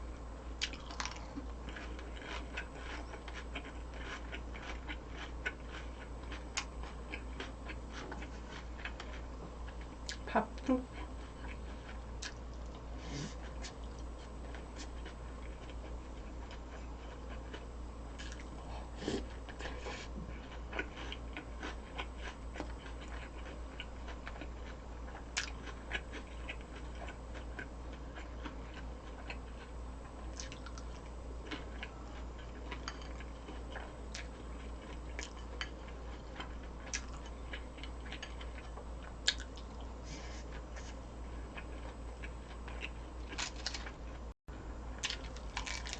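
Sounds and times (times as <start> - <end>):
low steady hum: 0.0 - 45.9
person chewing food: 0.6 - 10.2, 10.9 - 44.2, 44.9 - 45.9.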